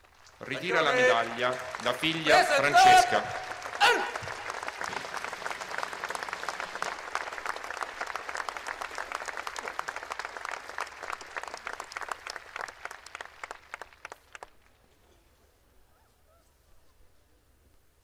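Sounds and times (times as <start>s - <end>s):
crowd applauding: 0.0s - 14.8s.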